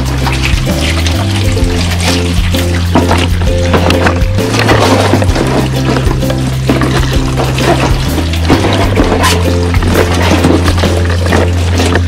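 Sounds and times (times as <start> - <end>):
background music with steady beat: 0.0 - 12.0
held bass notes: 0.0 - 12.0.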